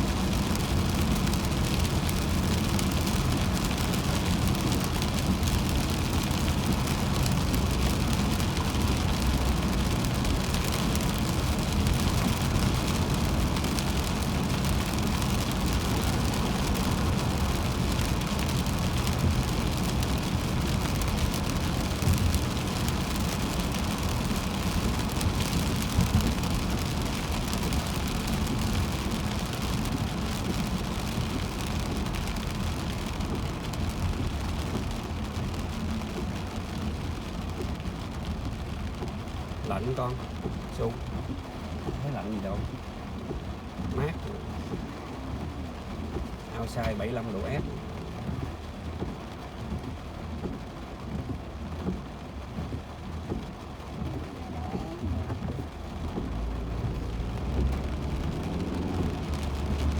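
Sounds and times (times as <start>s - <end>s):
rain and wet tyres hissing: 0.0s - 59.9s
road rumble inside car: 0.0s - 59.9s.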